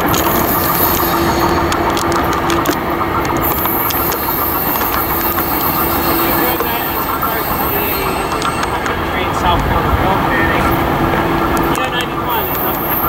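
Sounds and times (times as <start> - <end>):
rail clicks: 0.0 - 13.0
train hum: 0.0 - 13.0
train rumbling on track: 0.0 - 13.0.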